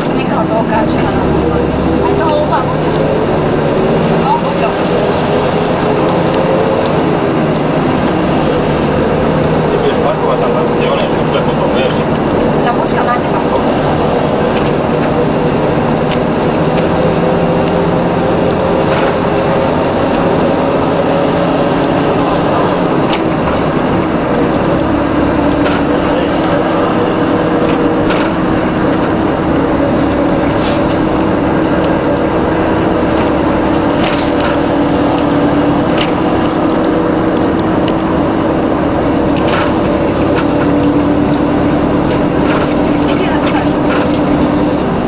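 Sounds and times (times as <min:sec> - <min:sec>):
bus body rattling and clicking: 0:00.0 - 0:45.0
bus diesel engine running: 0:00.0 - 0:45.0.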